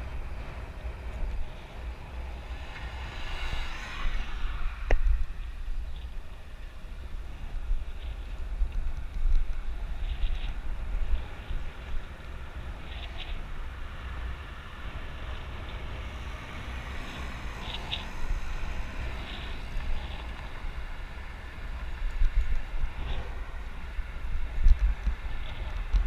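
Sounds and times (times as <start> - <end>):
road and tyre noise: 0.0 - 26.0
wind buffeting microphone: 0.0 - 26.0.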